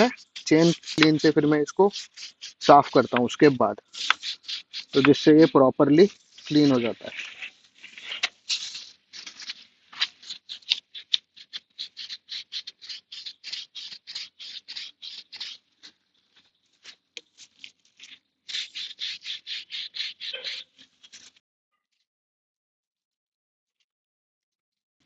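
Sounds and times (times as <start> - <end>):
brush scrubbing a chain: 0.0 - 21.4.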